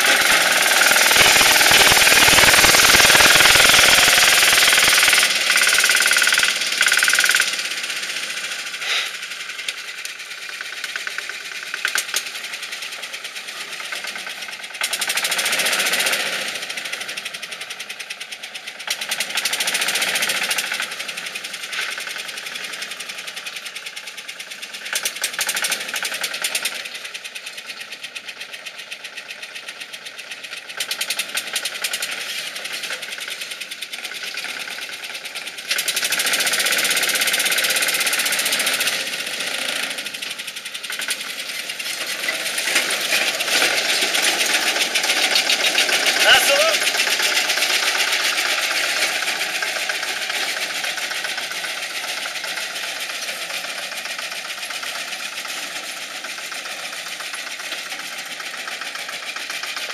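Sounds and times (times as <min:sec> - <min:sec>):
off-road vehicle engine running: 0:00.0 - 0:59.9.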